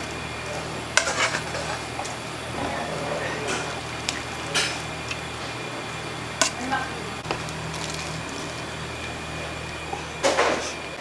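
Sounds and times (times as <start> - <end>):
kitchen equipment hum: 0.0 - 11.0.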